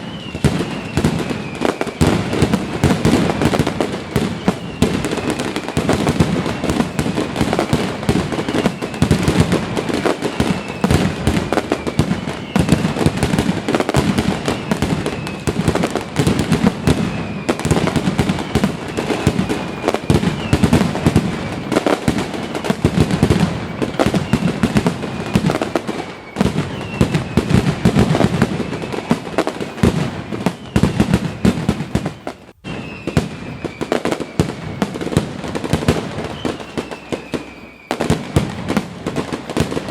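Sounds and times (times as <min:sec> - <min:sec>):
fireworks bangs and crackling: 0:00.0 - 0:39.9
fireworks falling whistles: 0:00.0 - 0:39.9.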